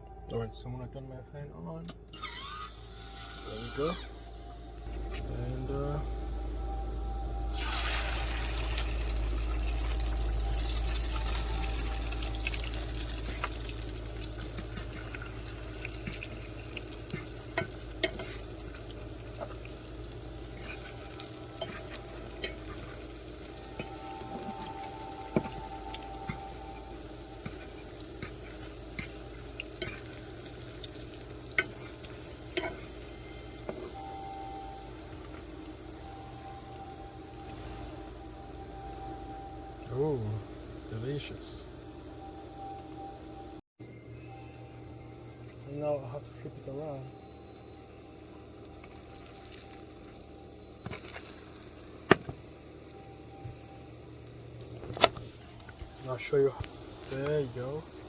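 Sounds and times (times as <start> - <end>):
eggs sizzling in oil: 7.4 - 41.5, 45.2 - 58.0.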